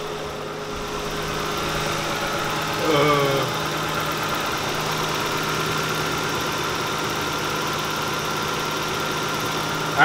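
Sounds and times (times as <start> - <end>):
car engine idling with slight miss: 0.0 - 10.0.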